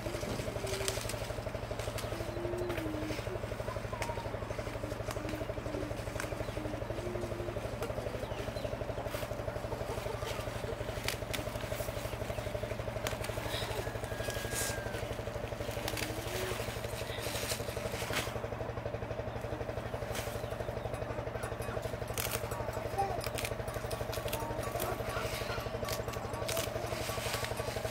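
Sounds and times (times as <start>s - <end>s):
engine droning: 0.0s - 27.9s
leafy greens snapping when picked: 0.1s - 3.2s, 4.0s - 8.4s, 9.1s - 18.5s, 22.1s - 27.9s.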